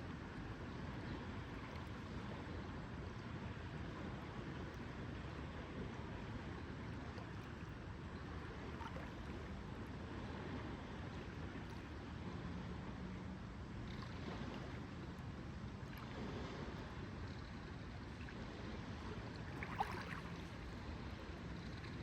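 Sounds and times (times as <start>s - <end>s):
water lapping at lake edge: 0.0s - 22.0s
wind: 0.0s - 22.0s.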